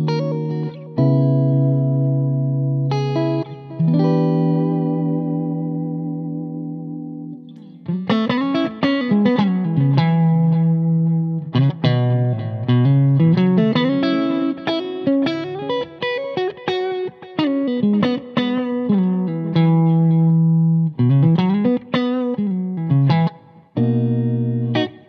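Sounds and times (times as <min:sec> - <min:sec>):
clean electric guitar melody: 0:00.0 - 0:25.0.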